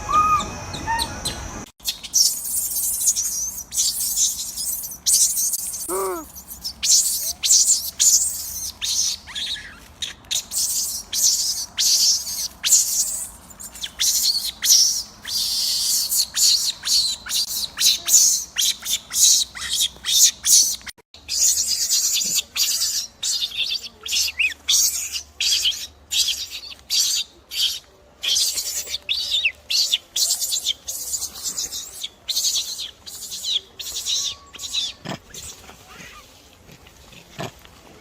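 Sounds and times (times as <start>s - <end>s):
animal squeaks and chirps: 0.1s - 36.3s.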